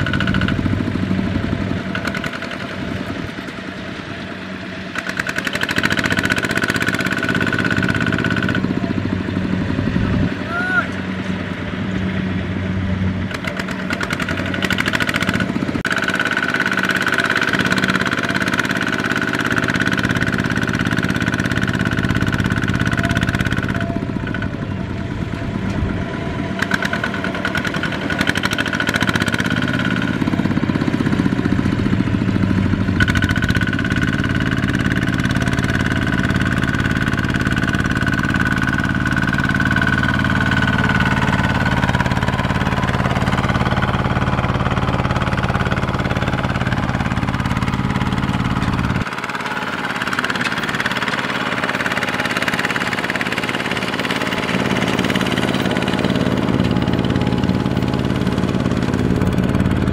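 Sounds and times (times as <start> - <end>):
diesel engine running hard: 0.0 - 59.9
wheels churning in mud: 0.0 - 59.9.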